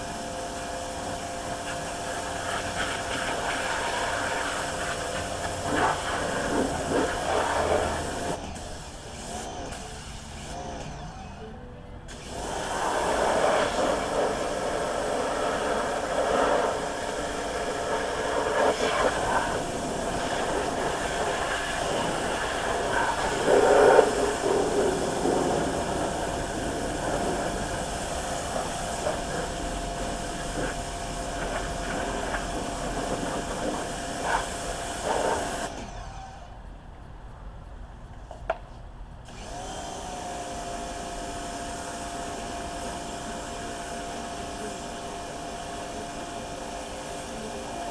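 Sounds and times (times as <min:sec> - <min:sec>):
small power tool whining: 0:04.5 - 0:36.6, 0:39.3 - 0:47.9.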